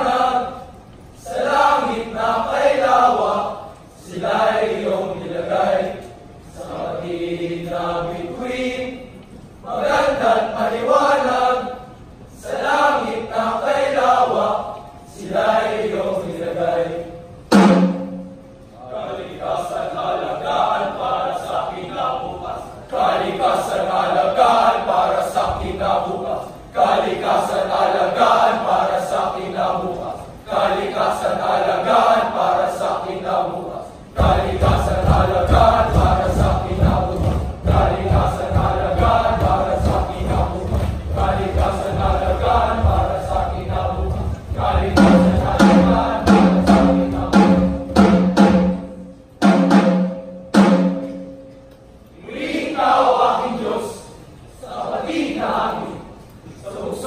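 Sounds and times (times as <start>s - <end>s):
group of voices reciting in unison: 0.0s - 49.2s, 52.1s - 57.0s.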